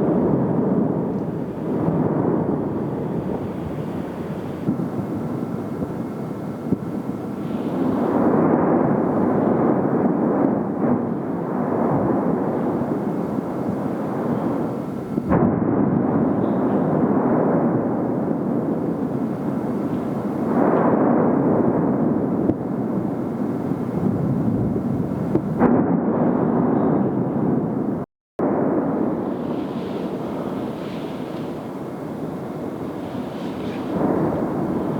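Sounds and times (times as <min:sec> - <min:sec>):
sharp volcanic blast: 0:00.0 - 0:34.9
volcano erupting: 0:00.0 - 0:34.9.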